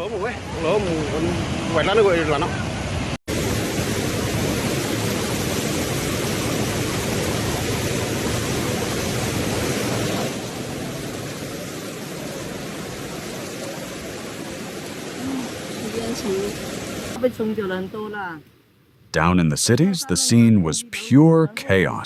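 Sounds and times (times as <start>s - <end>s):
floodwater rushing: 0.0s - 18.4s.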